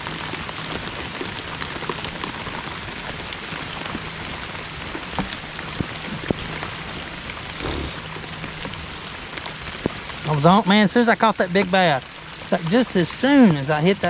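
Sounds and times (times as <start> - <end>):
heavy rain pouring: 0.0 - 14.0
sharp raindrop taps: 0.0 - 14.0.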